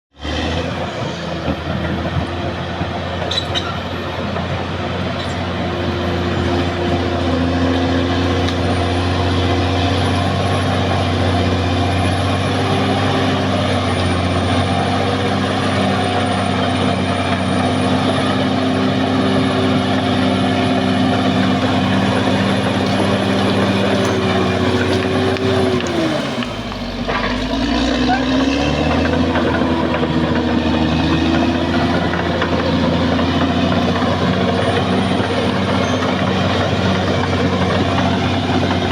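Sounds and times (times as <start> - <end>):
bulldozer diesel engine running: 0.1 - 38.9.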